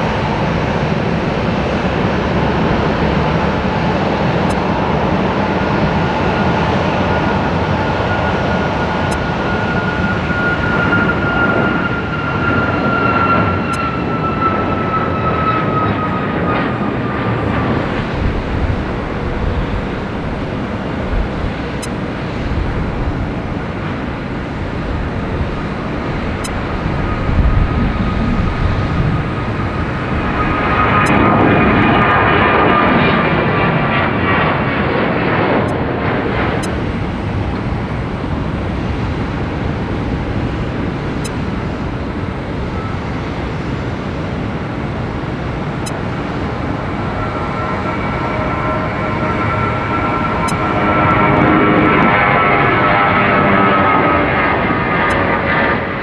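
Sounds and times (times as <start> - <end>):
jet engine roar and whine: 0.0 - 56.0.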